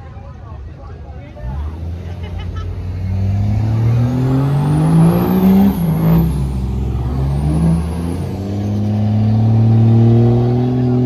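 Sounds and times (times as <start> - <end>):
truck engine revving: 1.4 - 11.0.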